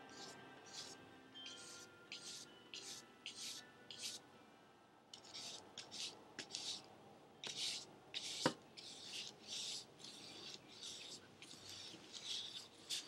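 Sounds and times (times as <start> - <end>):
paintbrush scrubbing on paper: 0.0 - 4.2, 5.2 - 13.0.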